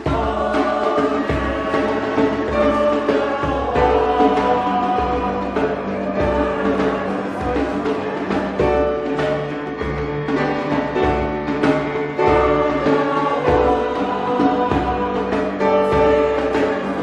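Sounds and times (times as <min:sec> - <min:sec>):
instrumental church music: 0:00.0 - 0:17.0.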